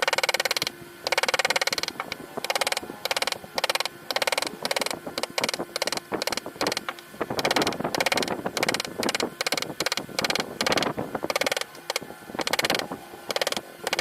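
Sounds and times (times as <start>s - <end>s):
hand tool rasping on wood: 0.0s - 14.0s.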